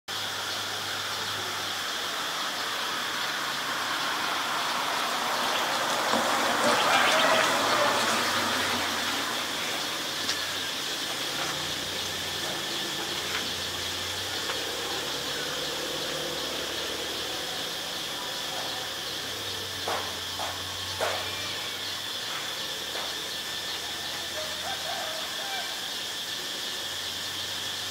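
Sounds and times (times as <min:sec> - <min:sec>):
rushing noise: 0:00.1 - 0:23.8
high insect drone: 0:00.1 - 0:27.9.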